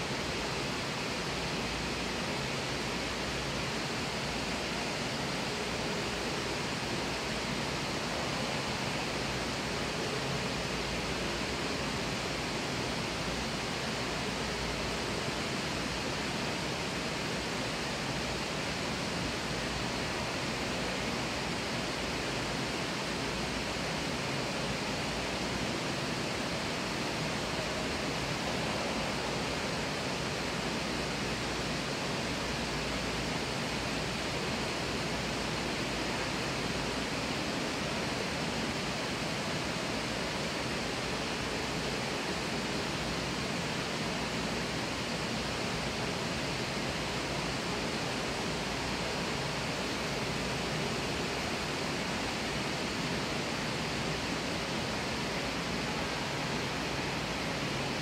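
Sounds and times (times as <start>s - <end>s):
indoor waterfall rushing: 0.0s - 58.0s.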